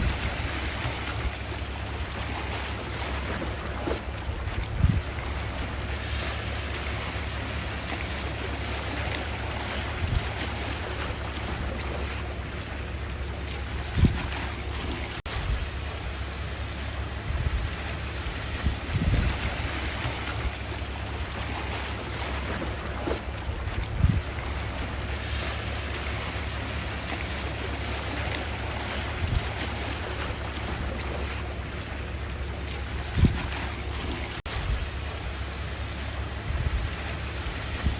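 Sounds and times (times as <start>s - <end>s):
sea waves washing: 0.0s - 37.9s
wind on microphone: 0.0s - 37.9s.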